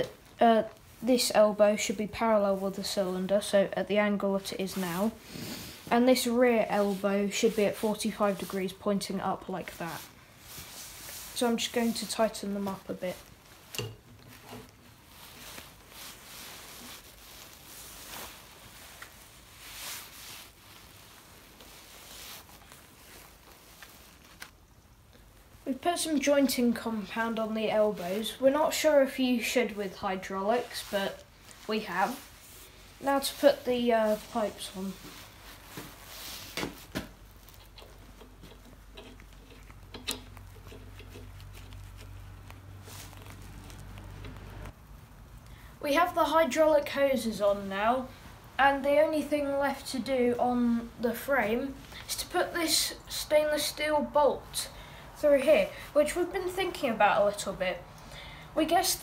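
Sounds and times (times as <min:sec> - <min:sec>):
gloves and sleeve rustling: 0:00.0 - 0:59.0.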